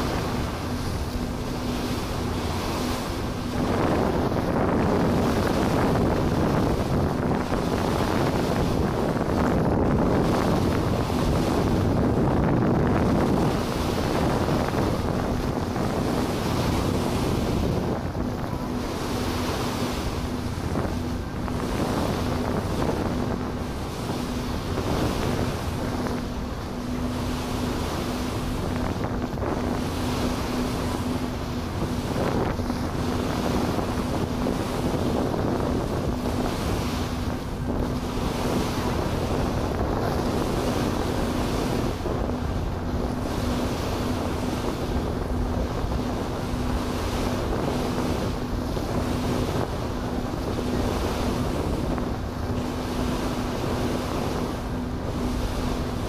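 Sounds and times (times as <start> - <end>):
ferry engine humming: 0.0 - 56.0
water washing past hull: 0.0 - 56.0
wind buffeting microphone: 0.0 - 56.0.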